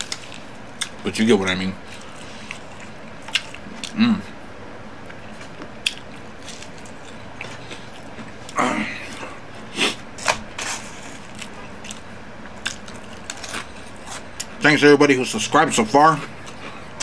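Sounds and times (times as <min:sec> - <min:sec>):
chewing crunchy fried food: 0:00.0 - 0:04.0, 0:05.0 - 0:14.6, 0:15.7 - 0:17.0.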